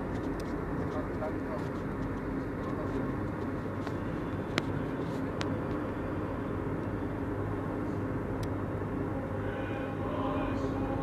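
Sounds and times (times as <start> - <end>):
car cabin road noise: 0.0 - 9.5.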